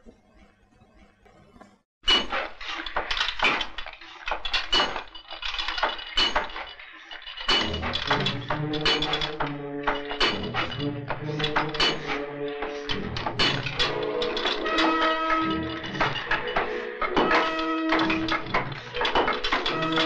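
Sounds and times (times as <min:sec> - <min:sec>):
sharp ringing clattering strikes: 0:02.1 - 0:20.0.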